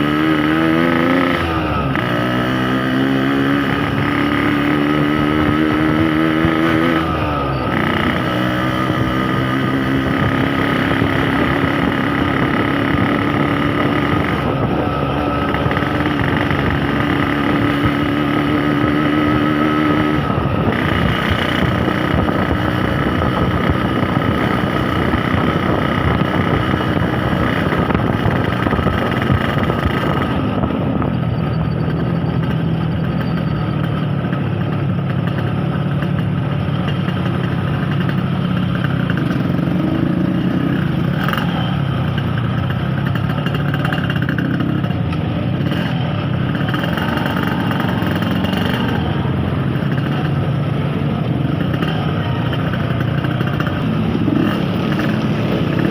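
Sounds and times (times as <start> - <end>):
two-stroke motorcycle engine running: 0.0 - 55.9.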